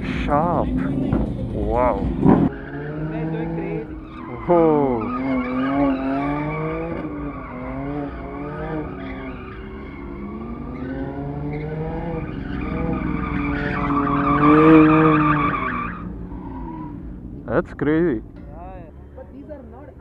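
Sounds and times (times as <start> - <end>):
car engine at high revs: 0.0 - 20.0
tyres squealing: 0.0 - 20.0.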